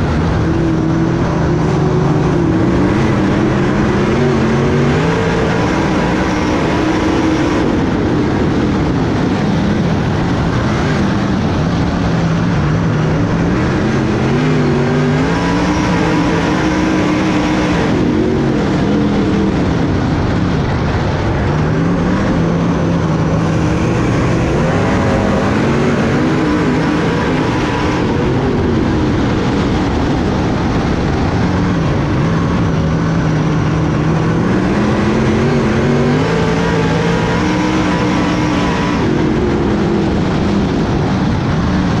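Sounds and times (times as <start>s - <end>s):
race car engine accelerating: 0.0s - 42.0s.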